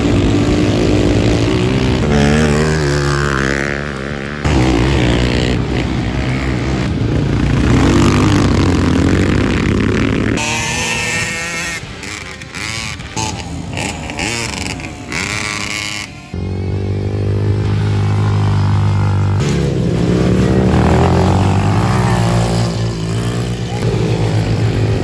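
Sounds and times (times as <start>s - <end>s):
quad engines revving: 0.0s - 25.0s.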